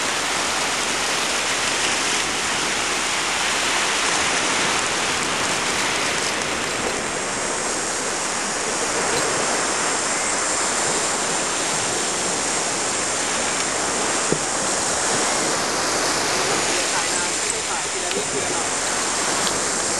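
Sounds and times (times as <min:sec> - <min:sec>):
small waves washing onto beach: 0:00.0 - 0:19.9.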